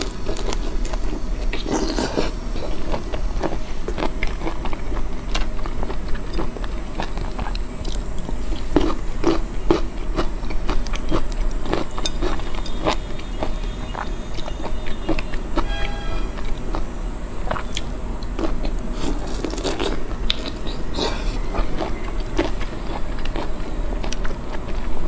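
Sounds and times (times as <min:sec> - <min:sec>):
person chewing prawns: 0:00.0 - 0:25.0.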